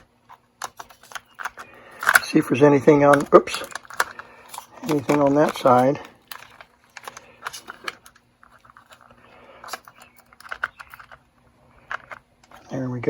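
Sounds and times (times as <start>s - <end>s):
plastic and metal clicks: 0.6s - 12.7s.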